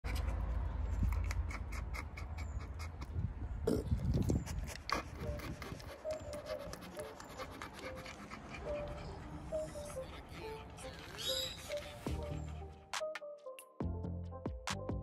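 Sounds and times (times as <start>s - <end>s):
dog panting: 0.1s - 3.3s, 4.0s - 12.9s.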